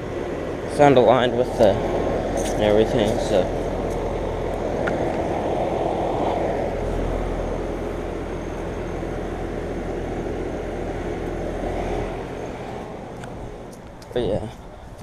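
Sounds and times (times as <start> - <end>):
condenser fan rushing air: 0.0 - 15.0
low compressor hum: 0.0 - 15.0.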